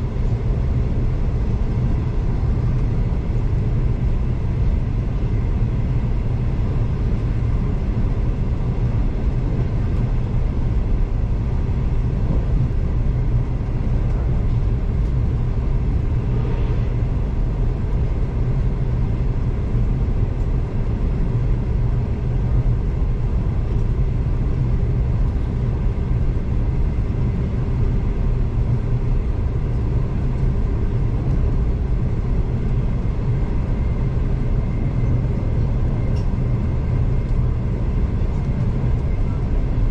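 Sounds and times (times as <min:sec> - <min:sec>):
train rumble from inside carriage: 0:00.0 - 0:39.9.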